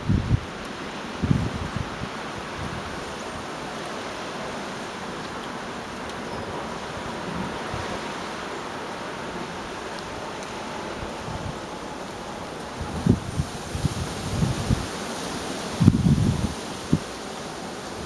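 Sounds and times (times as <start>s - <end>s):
wind buffeting microphone: 0.0s - 8.3s, 9.2s - 17.3s
storm wind blowing: 0.0s - 18.0s.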